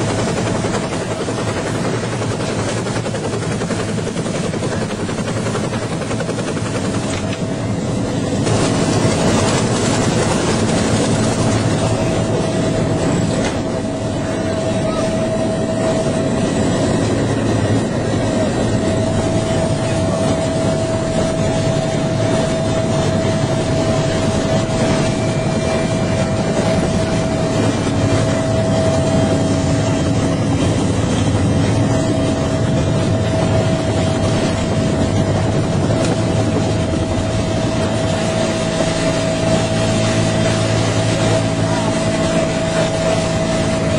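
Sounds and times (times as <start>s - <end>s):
constant turbine whine: 0.0s - 43.9s
helicopter running: 0.0s - 43.9s.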